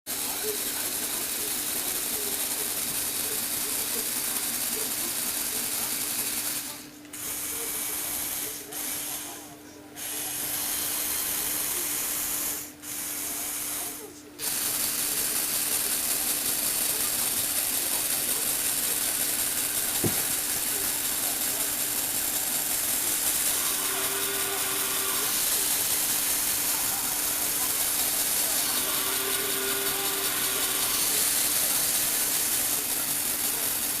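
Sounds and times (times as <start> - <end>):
toy motor and gears humming: 0.1 - 34.0.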